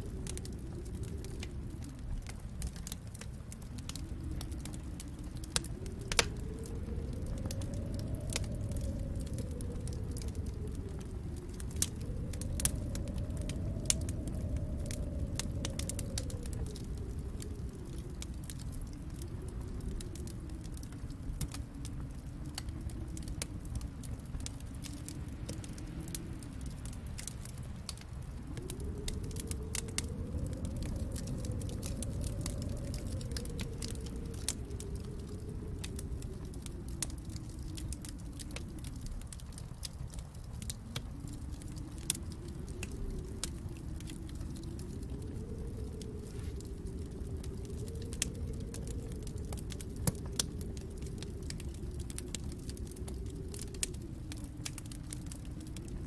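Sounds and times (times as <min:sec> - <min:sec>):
low rumble: 0:00.0 - 0:56.0
wood fire crackling: 0:00.0 - 0:56.0.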